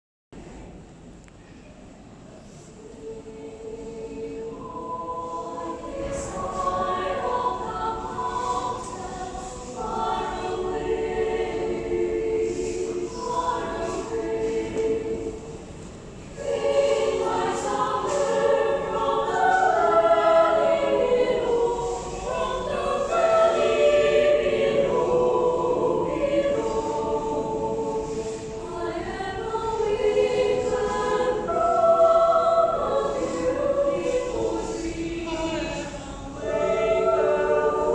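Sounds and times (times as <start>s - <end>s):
choir singing in harmony: 2.5s - 37.9s.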